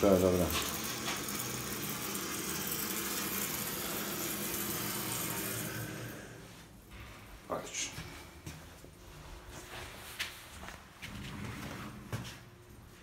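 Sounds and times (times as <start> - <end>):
hydraulic unit mechanical hum: 0.0 - 13.0.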